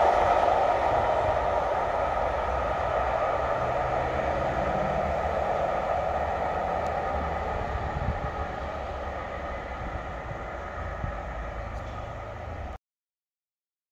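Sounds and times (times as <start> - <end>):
diesel train rumble: 0.0 - 12.8.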